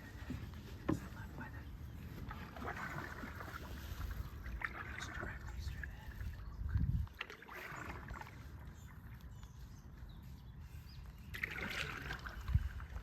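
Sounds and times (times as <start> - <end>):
paddle strokes swishing through water: 0.0 - 13.0.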